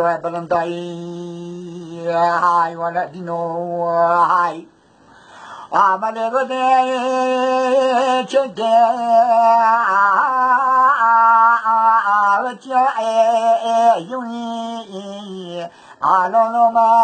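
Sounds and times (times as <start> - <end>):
old man singing unaccompanied: 0.0 - 4.8, 5.6 - 17.0.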